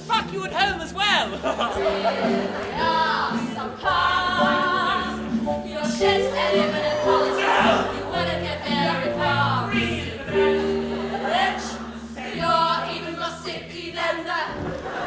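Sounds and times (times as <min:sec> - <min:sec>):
voices singing held notes: 0:00.6 - 0:15.0.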